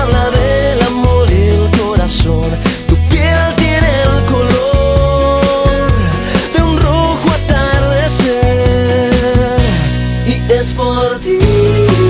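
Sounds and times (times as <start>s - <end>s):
song with steady drum beat: 0.0s - 12.0s.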